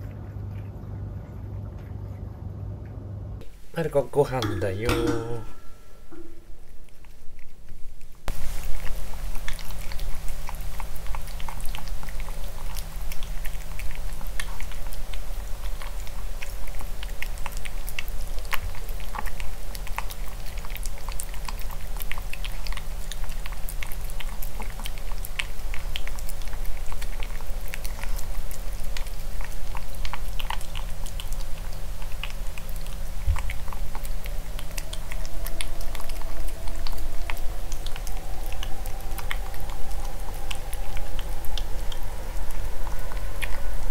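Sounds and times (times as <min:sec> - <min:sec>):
puppy chewing food: 0:00.0 - 0:43.9
steady low hum: 0:00.0 - 0:43.9.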